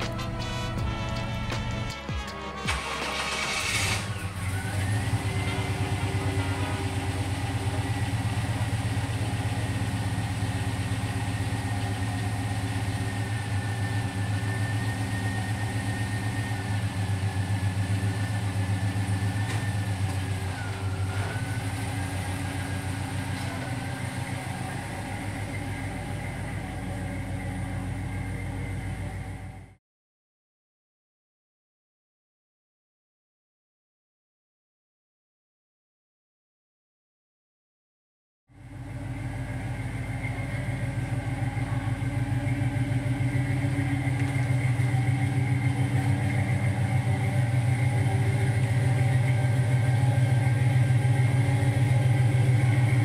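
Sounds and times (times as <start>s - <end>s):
car engine idling: 0.0s - 29.8s, 38.5s - 53.0s.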